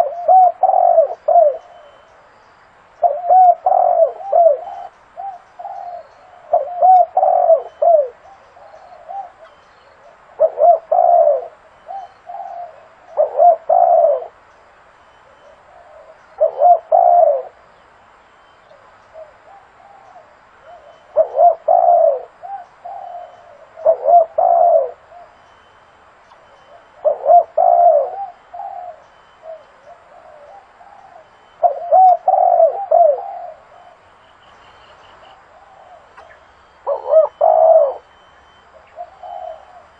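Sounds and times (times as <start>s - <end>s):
dove cooing: 0.0s - 2.2s, 3.0s - 14.4s, 15.2s - 17.7s, 18.7s - 25.8s, 26.4s - 39.9s.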